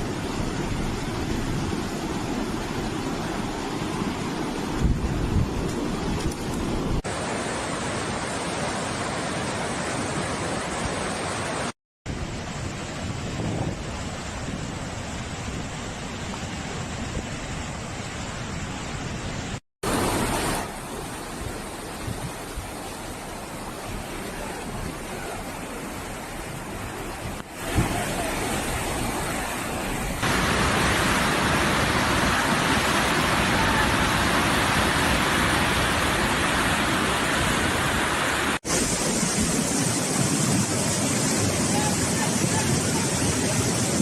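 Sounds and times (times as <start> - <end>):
rushing wind or water: 0.0 - 44.0.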